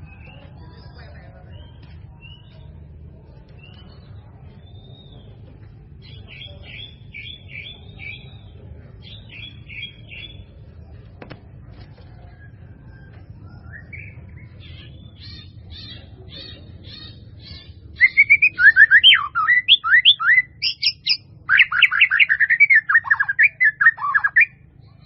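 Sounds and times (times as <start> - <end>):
bird singing: 0.0 - 10.7, 12.2 - 25.0.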